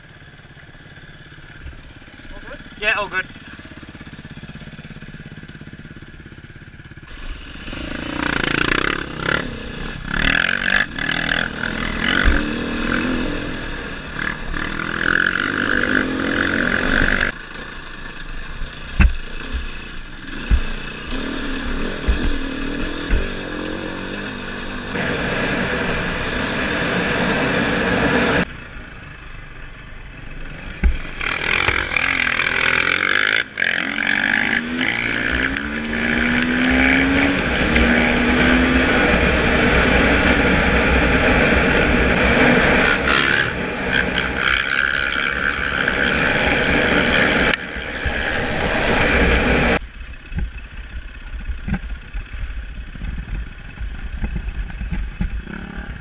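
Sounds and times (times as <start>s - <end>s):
dirt bike engine revving: 1.2s - 28.6s, 30.2s - 49.8s, 53.2s - 56.0s.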